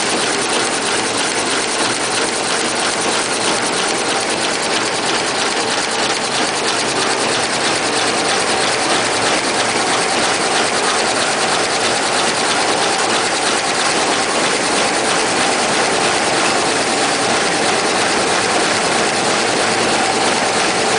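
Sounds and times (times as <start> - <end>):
fast even clatter: 0.0 - 20.9
machine noise of rollers: 0.0 - 20.9.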